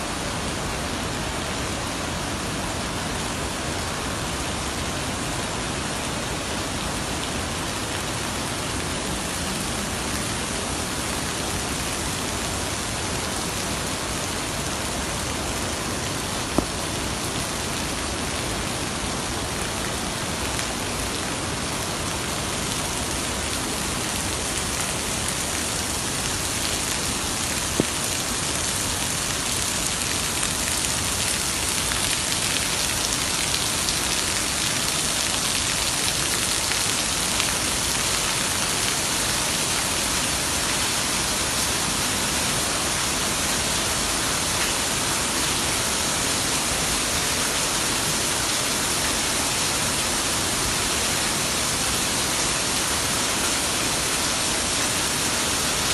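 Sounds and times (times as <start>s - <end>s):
rush of falling water: 0.0s - 55.9s.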